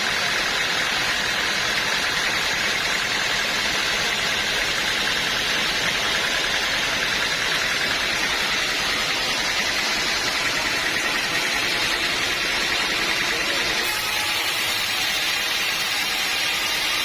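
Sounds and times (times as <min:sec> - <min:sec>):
band saw cutting log: 0:00.0 - 0:17.0.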